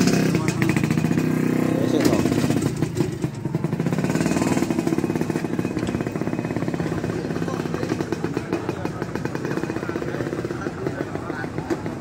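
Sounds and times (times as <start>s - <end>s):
scooter two-stroke engine popping: 0.0s - 12.0s.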